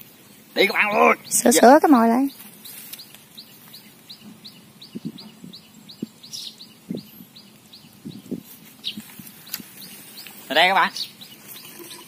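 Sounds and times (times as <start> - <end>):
small bird chirping: 0.2 - 12.0.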